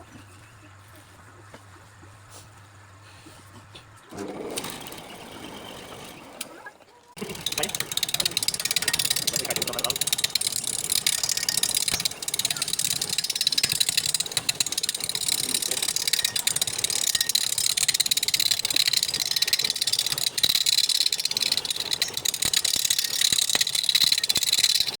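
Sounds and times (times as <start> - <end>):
wood lathe tool hissing: 4.1 - 6.6, 7.2 - 25.0.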